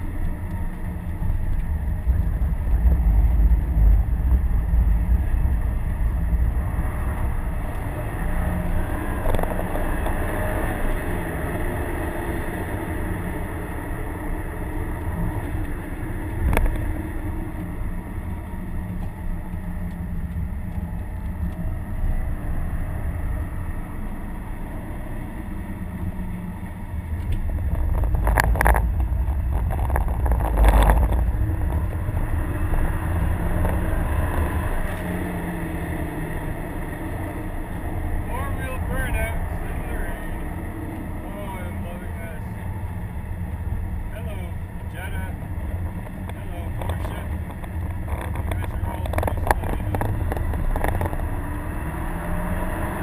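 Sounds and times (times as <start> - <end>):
car engine under load: 0.0 - 53.0
tyre and wet road noise: 0.0 - 53.0.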